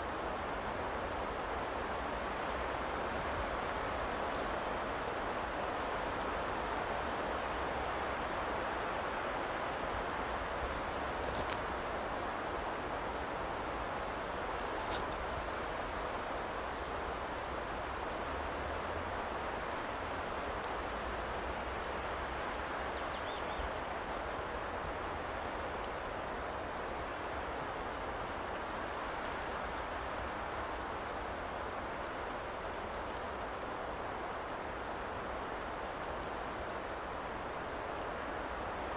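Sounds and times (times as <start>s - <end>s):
woodland ambient noise: 0.0s - 38.9s.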